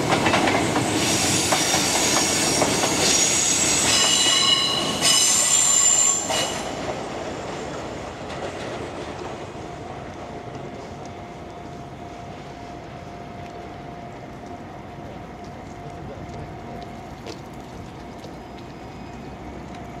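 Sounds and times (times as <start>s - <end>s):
thin train whine: 0.0s - 17.2s
train running sound: 0.0s - 20.0s.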